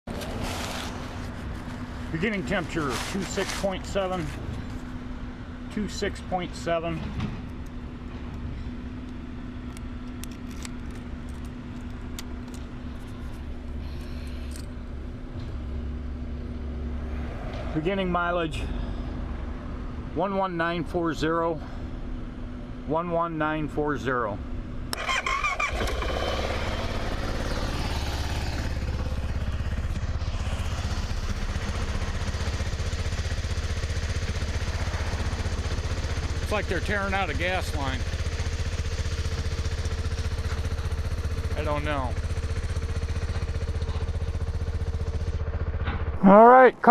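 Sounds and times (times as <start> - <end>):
car engine running: 0.0 - 17.0, 24.6 - 46.9.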